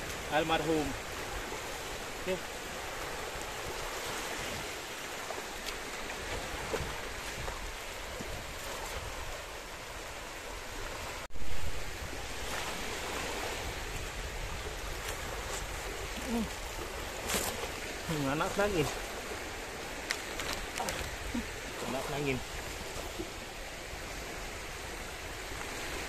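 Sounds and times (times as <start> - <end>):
small waves lapping on beach: 0.0 - 26.0.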